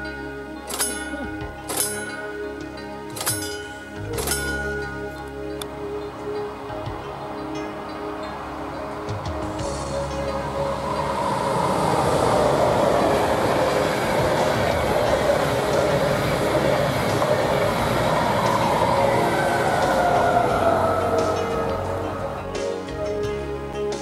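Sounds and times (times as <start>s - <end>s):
locomotive whine falling in pitch: 0.0s - 23.2s
train wheels rolling on rails: 0.0s - 24.0s.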